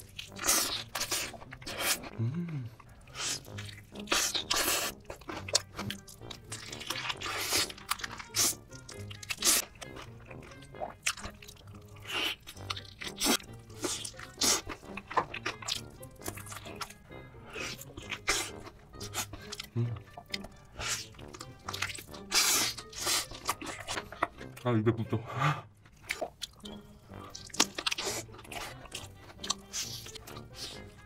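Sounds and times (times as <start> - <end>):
crunching bites and chewing: 0.0 - 2.2, 2.8 - 24.6, 25.8 - 31.0
background music: 0.0 - 31.0.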